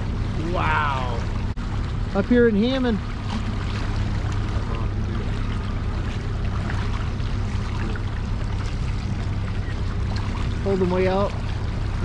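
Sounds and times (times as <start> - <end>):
outboard motor running: 0.0 - 12.0
water moving along hull: 0.0 - 12.0.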